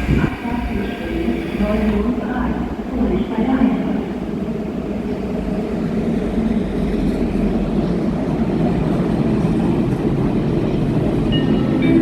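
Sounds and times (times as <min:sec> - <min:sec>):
train rumbling into platform: 0:00.0 - 0:12.0.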